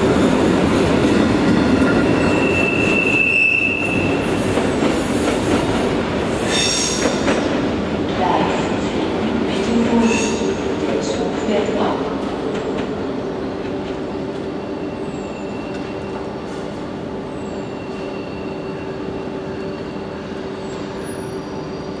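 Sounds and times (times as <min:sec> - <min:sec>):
train humming: 0:00.0 - 0:22.0.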